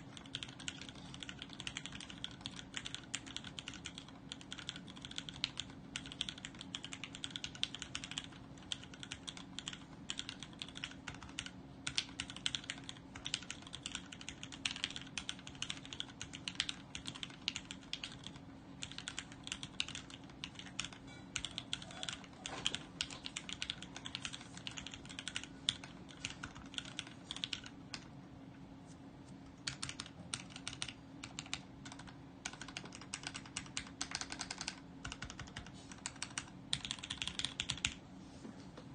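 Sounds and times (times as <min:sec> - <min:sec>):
mechanical keyboard typing: 0:00.0 - 0:28.1, 0:29.6 - 0:38.0
faint steady hum: 0:00.0 - 0:38.9.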